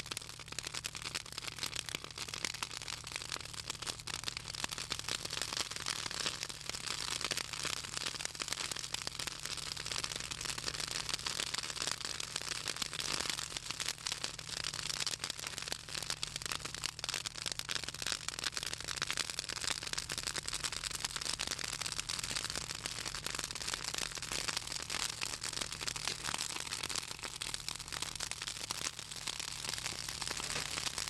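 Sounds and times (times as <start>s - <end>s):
bonfire crackling and popping: 0.0s - 31.0s.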